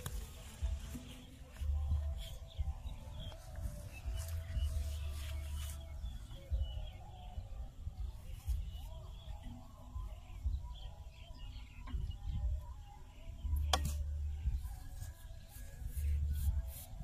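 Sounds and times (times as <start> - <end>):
faint bird chirps: 0.0 - 17.0
wind rumble on microphone: 0.0 - 17.0.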